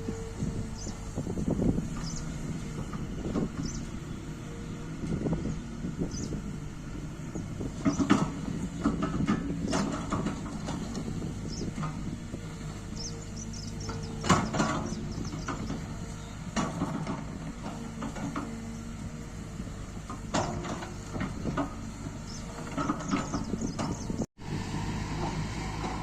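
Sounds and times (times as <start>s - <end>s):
hydraulic whine: 0.0s - 18.4s, 19.0s - 26.0s
excavator diesel engine running: 0.0s - 26.0s.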